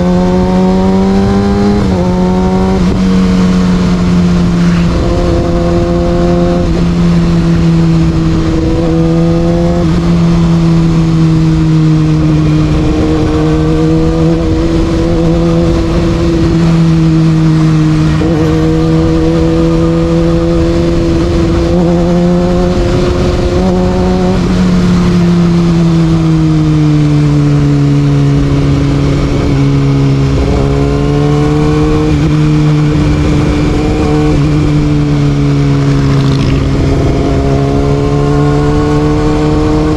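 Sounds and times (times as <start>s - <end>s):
motorcycle engine high pitch: 0.0s - 39.9s.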